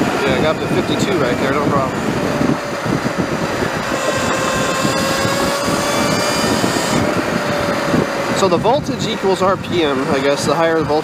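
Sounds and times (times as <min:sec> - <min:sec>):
wind buffeting on microphone: 0:00.0 - 0:11.0
electric motor high-pitched whine: 0:01.0 - 0:10.2.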